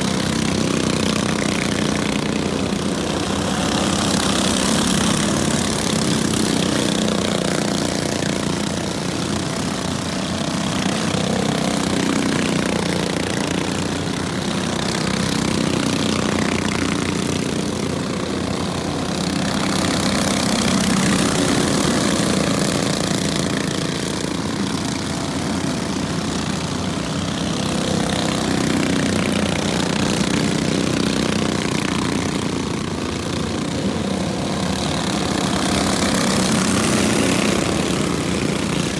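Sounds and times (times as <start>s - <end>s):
small race car engines droning: 0.0s - 38.9s.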